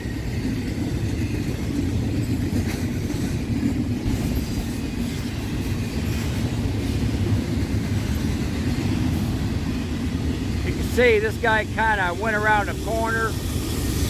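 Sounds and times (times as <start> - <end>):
freight train cars rumbling past: 0.0 - 14.0.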